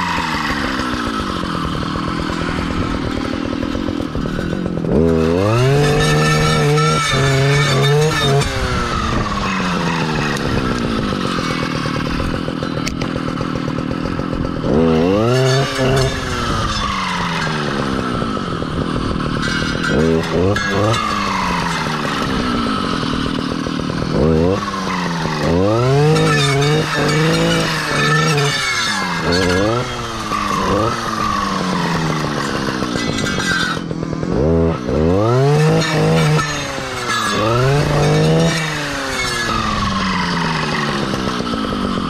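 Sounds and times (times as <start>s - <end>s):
clearing saw engine revving: 0.0s - 42.0s
saw blade cutting saplings: 0.0s - 42.0s.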